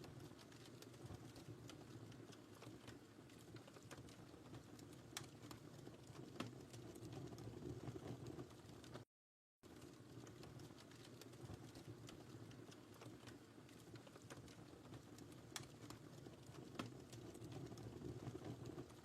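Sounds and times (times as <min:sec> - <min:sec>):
wood fire crackling: 0:00.0 - 0:09.0, 0:09.7 - 0:19.0.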